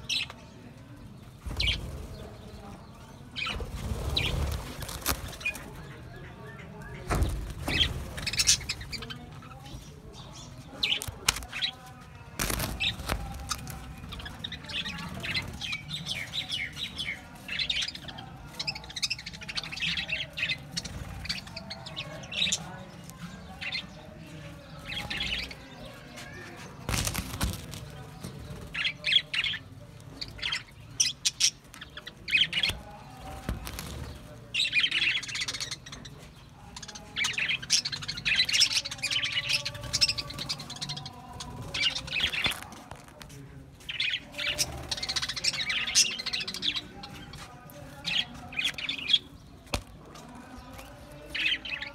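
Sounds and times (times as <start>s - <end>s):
budgerigars chirping and chattering: 0.0s - 51.9s.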